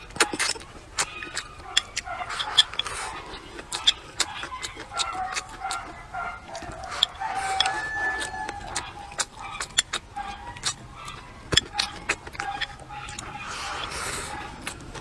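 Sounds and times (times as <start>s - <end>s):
faint fowl calling: 0.0s - 14.7s
crunchy chewing: 0.0s - 15.0s.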